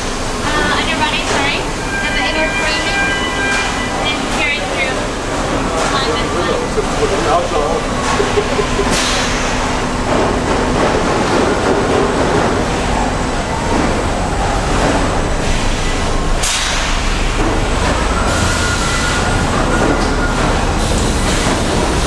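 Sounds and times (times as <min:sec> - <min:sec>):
assembly-line machinery rumble: 0:00.0 - 0:22.0.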